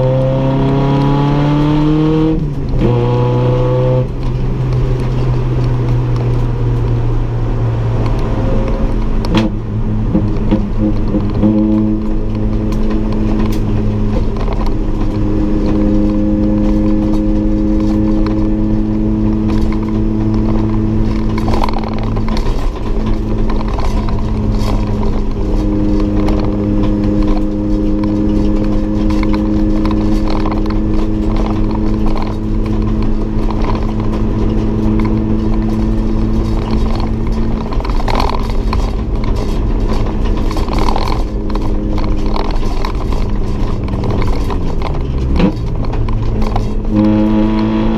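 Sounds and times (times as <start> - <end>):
race car engine running hard: 0.0 - 47.9.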